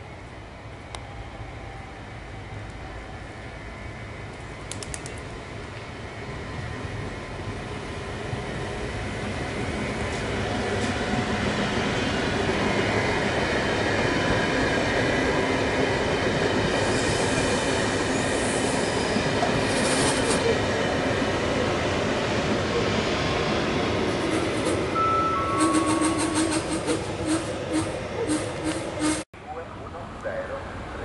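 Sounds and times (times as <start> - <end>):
train wheels rumbling on rail: 0.2 - 29.3.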